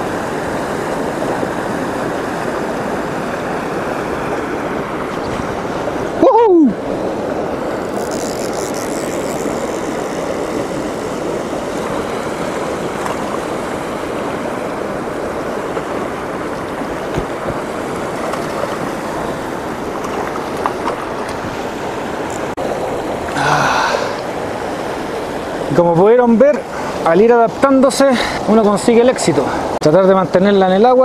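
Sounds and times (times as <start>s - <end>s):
stream rushing over boulders: 0.0s - 31.0s.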